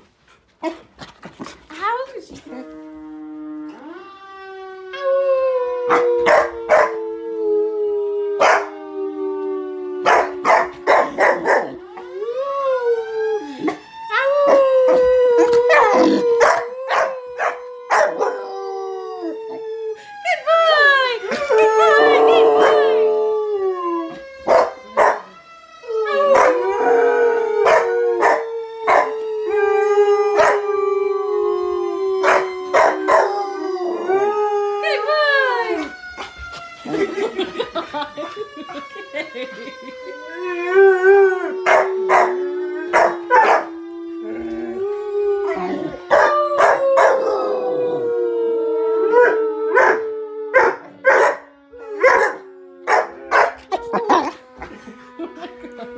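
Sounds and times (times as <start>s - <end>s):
dogs howling: 1.9s - 55.9s.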